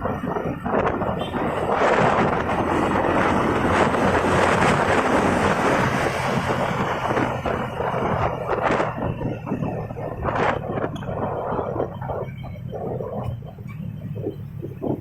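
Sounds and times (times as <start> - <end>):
low hum of engines and traffic: 0.0 - 15.0
wind rushing over microphone: 0.0 - 15.0.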